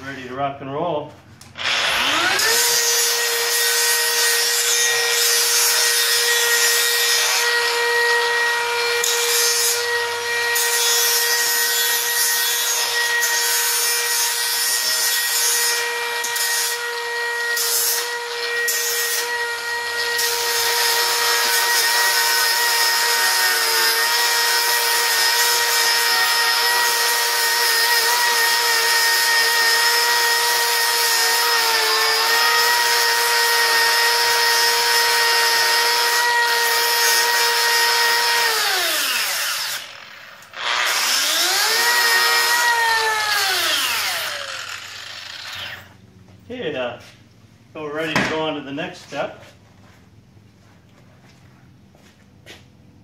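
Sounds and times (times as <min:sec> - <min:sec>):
power grinder grinding steel: 0:01.4 - 0:46.0.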